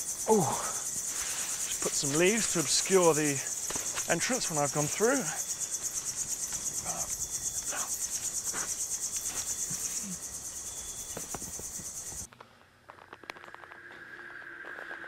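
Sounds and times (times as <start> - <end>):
high pulsing insect chorus: 0.0 - 12.3.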